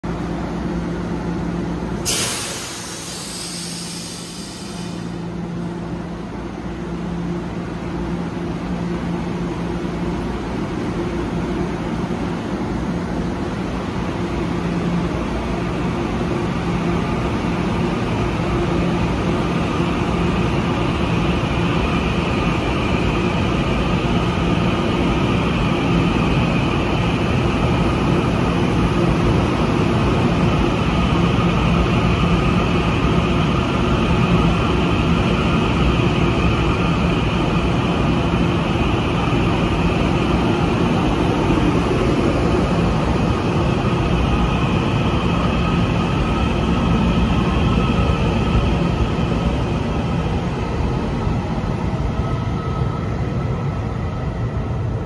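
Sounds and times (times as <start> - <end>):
electric train running on rails: 0.1 - 55.0.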